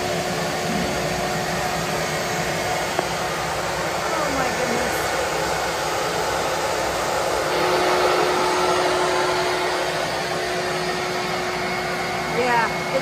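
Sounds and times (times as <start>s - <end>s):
rushing blower whir: 0.0s - 13.0s.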